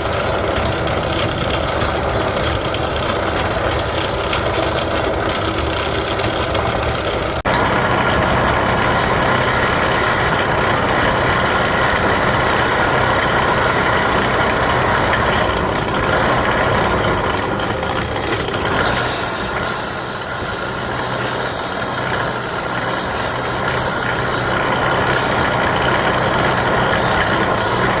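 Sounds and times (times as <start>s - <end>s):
wood lathe running: 1.7s - 28.0s.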